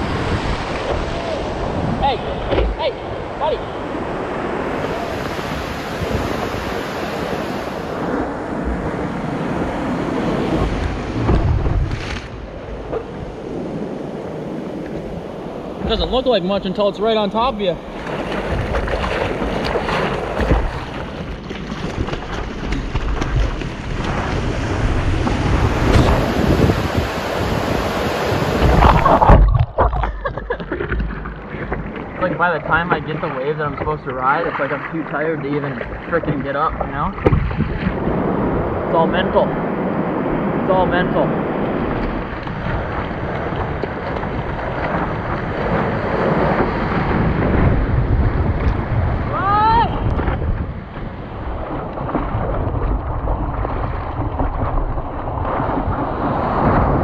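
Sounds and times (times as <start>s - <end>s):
water splashing and rushing: 0.0s - 57.0s
wind buffeting microphone: 0.0s - 57.0s.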